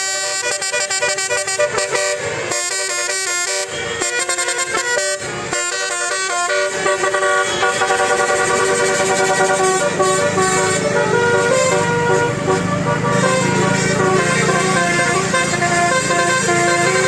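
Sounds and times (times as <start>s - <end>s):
bus engine noise: 0.0s - 17.0s
musical bus air horn playing a tune: 0.0s - 17.0s.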